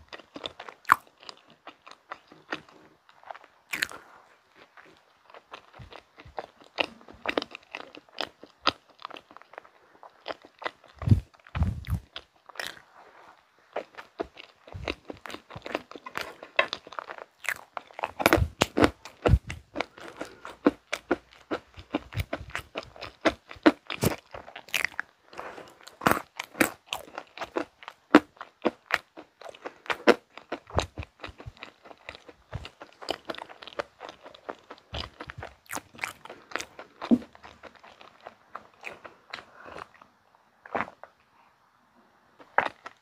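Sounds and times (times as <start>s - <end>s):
person chewing and crunching: 0.0s - 41.3s, 42.4s - 43.0s.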